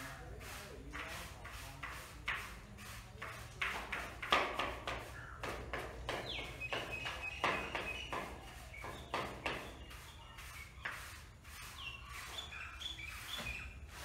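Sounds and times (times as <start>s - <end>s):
broom sweeping cement floor: 0.0s - 14.0s.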